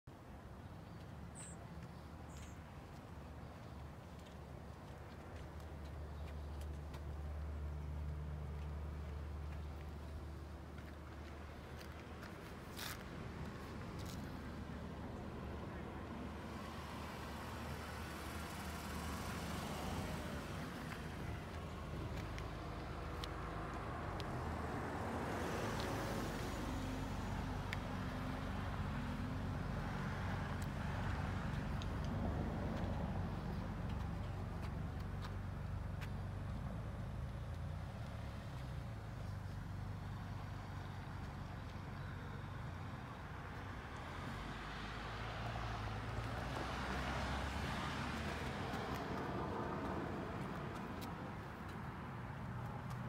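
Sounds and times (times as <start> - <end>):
road noise: 0.0 - 53.0
low engine hum: 0.8 - 53.0.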